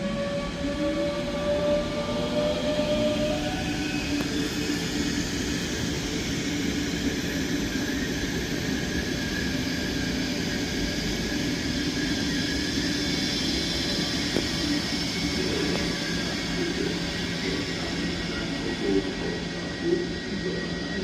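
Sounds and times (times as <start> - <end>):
train motor whine: 0.0 - 20.6
electric train rumbling: 0.0 - 21.0.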